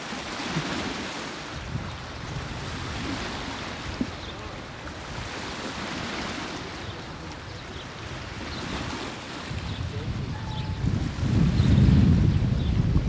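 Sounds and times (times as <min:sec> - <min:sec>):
small waves washing on shore: 0:00.0 - 0:13.0
steady water rush: 0:00.0 - 0:13.0
wind buffeting microphone: 0:00.0 - 0:13.0.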